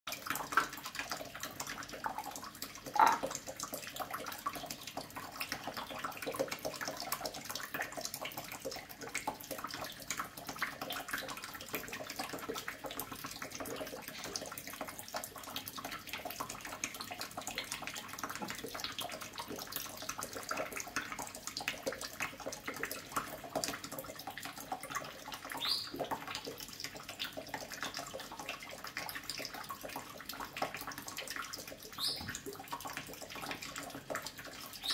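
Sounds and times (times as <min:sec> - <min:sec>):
tap water running into sink: 0:00.1 - 0:34.9.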